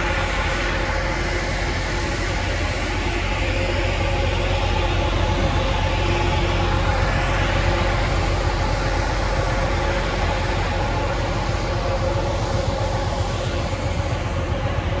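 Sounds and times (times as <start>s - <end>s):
machine drone: 0.0s - 15.0s
steady whining tones: 0.0s - 15.0s.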